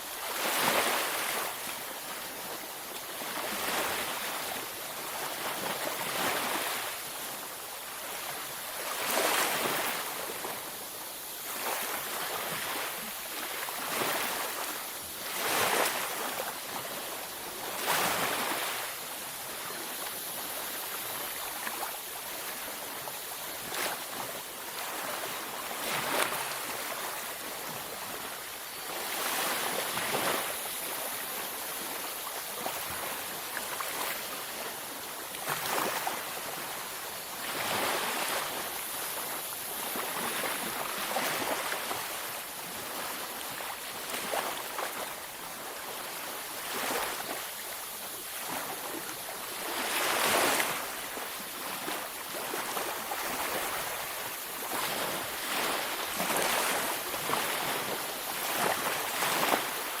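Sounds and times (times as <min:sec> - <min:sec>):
waves breaking on shore: 0:00.0 - 1:00.0.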